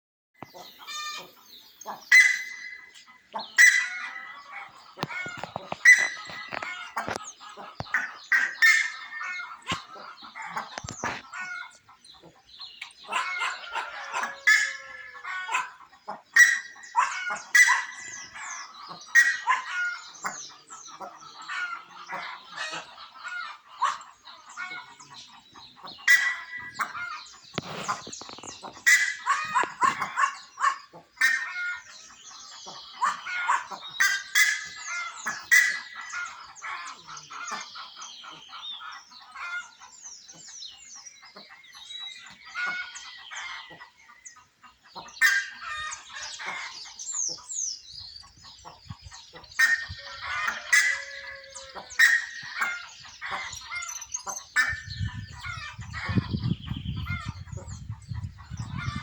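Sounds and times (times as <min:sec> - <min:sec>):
birds calling: 0:00.4 - 0:59.0.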